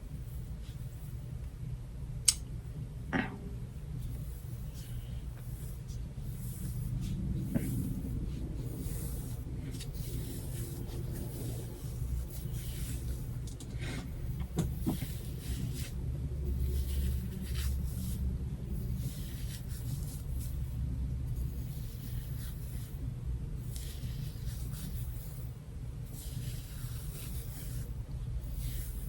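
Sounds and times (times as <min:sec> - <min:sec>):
low hum: 0:00.0 - 0:29.0
hair brushing strokes: 0:03.8 - 0:29.0.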